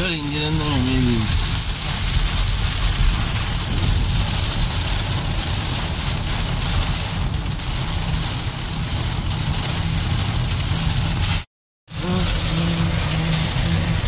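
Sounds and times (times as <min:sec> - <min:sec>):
heavy rain on car windshield: 0:00.0 - 0:14.0
road and tyre noise: 0:00.0 - 0:14.0.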